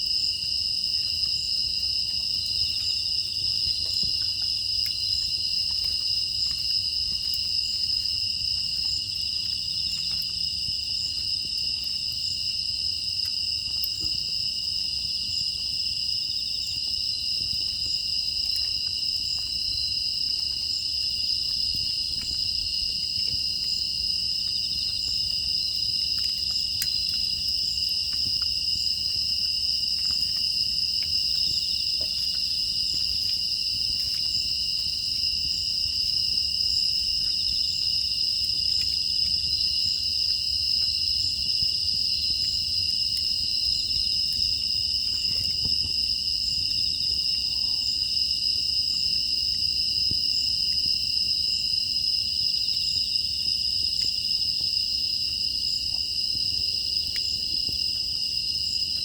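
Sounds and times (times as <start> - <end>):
crickets chirring: 0.0 - 59.0
faint wood fire crackles: 0.0 - 59.0.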